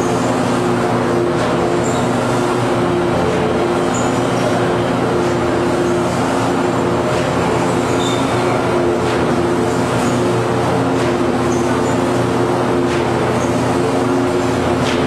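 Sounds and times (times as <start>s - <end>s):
machine drone: 0.0s - 15.0s.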